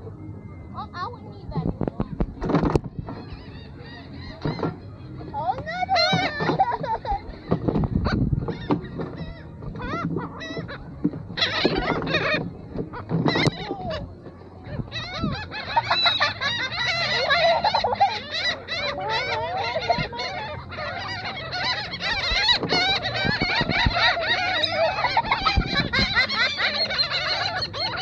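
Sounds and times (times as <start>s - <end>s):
gulls calling: 0.0s - 28.0s.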